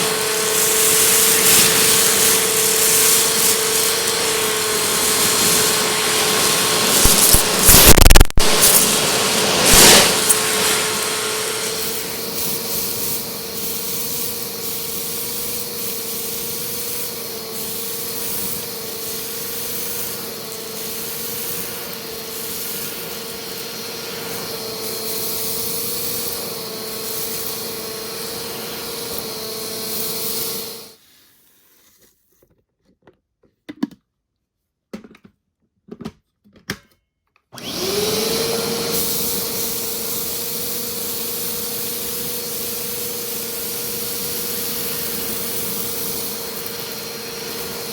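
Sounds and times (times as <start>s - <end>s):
vacuum cleaner whining: 0.0s - 31.0s, 37.5s - 47.9s.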